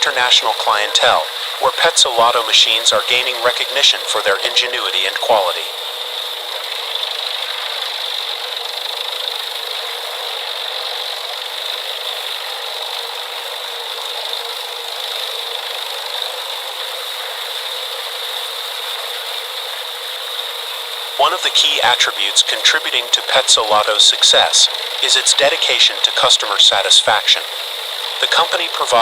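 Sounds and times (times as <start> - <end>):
wood chipper running: 0.0 - 26.3, 27.3 - 29.0.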